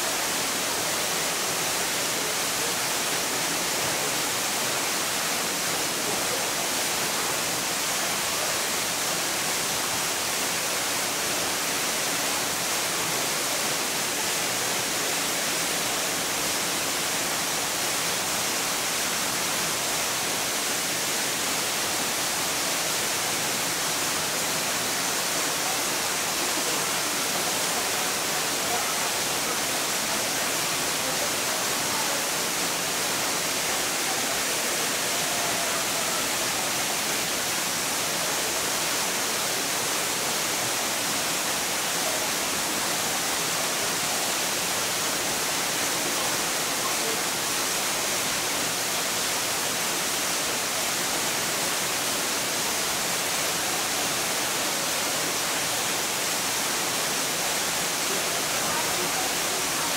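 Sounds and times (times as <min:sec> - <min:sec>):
falling water hiss: 0:00.0 - 0:59.9.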